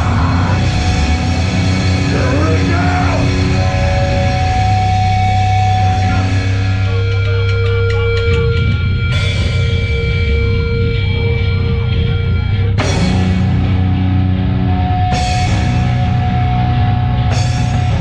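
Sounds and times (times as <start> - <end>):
distorted electric guitar: 0.0 - 18.0
drums: 0.0 - 18.0.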